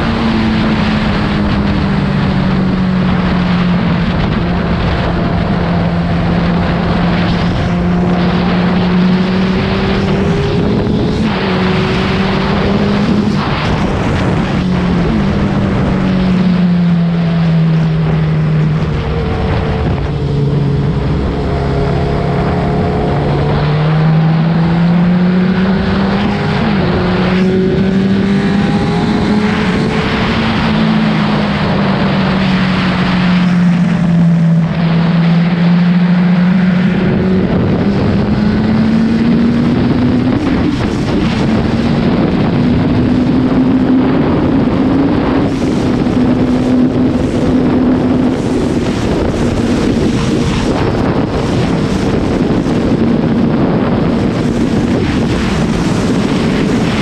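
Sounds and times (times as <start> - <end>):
motorcycle engine running at high speed: 0.0 - 57.0
wind noise on microphone: 0.0 - 57.0.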